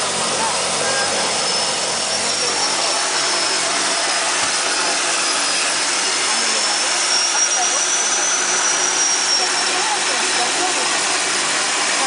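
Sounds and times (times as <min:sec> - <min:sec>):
high turbine whine: 0:00.0 - 0:12.0
turboprop engines droning: 0:00.0 - 0:12.0.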